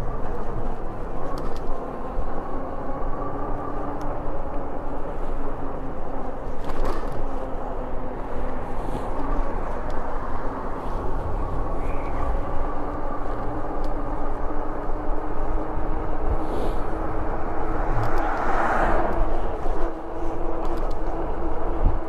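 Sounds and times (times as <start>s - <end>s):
bike motor and tyres humming: 0.0s - 22.0s
wind rushing over microphone: 0.0s - 22.0s.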